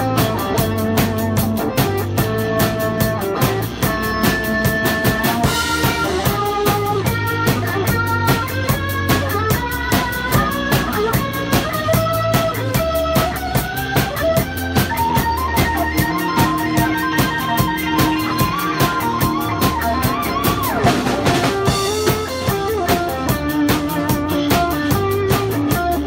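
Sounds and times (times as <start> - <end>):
instrumental band music: 0.0 - 26.0.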